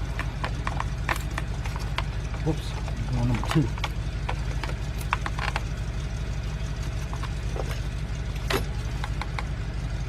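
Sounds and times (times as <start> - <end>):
car engine idling with misfire: 0.0 - 10.0.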